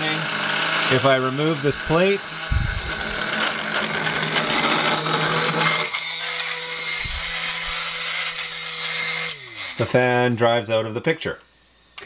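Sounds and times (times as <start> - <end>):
electric motor propeller hum: 0.0 - 9.9.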